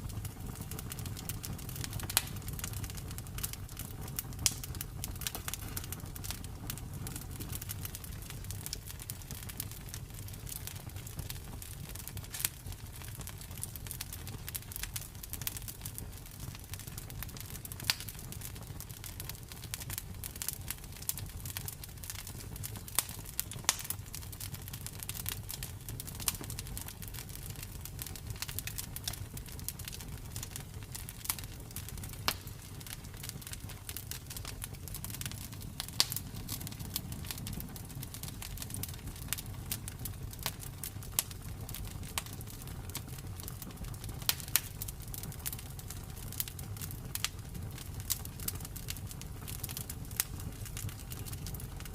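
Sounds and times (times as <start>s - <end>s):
low rumble of flames: 0.0s - 51.9s
wood crackling and popping: 0.0s - 51.9s.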